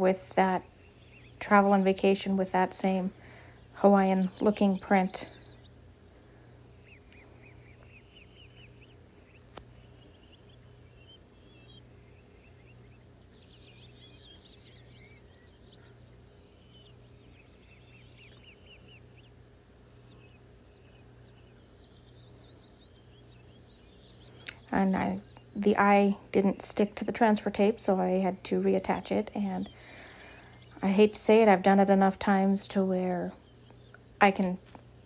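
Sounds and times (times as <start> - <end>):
faint bird chirps: 0.0 - 35.0
steady low hum: 0.0 - 35.0.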